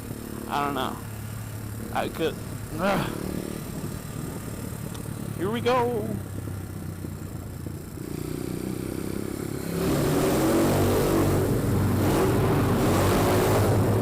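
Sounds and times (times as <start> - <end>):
small motorbike engine revving: 0.0 - 14.0.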